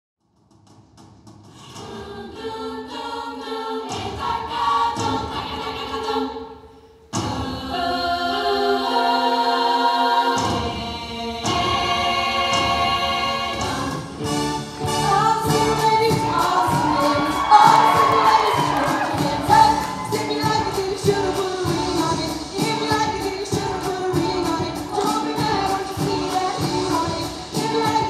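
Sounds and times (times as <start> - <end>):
choir singing in harmony: 1.6 - 28.0.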